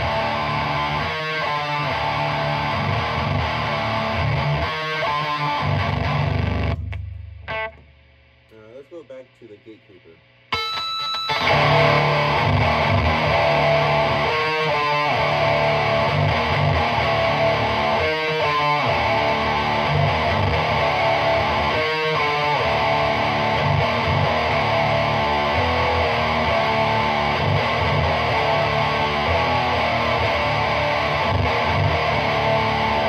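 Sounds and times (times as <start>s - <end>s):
distorted electric guitar riffs: 0.0s - 9.0s, 10.5s - 33.0s.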